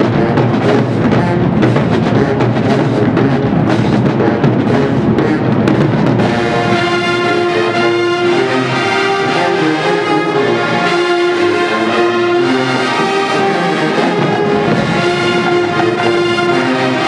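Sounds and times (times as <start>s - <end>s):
brass section playing held chords: 0.0s - 17.0s.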